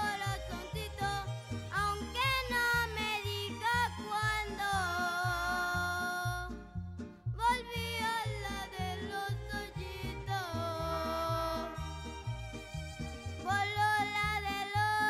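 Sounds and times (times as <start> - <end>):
person singing: 0.0 - 6.7, 7.4 - 12.0, 13.4 - 15.0.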